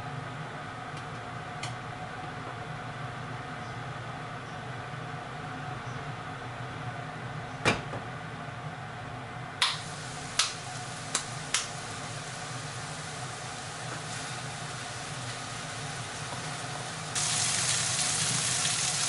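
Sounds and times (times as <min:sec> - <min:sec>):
low kitchen hum: 0:00.0 - 0:19.0.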